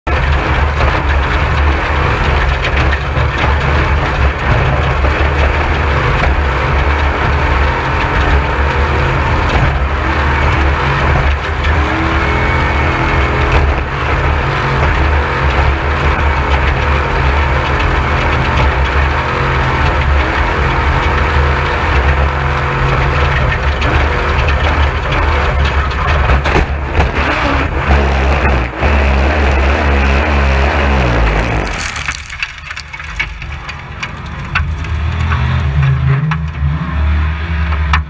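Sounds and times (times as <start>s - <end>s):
race vehicle engine running: 0.0s - 38.0s.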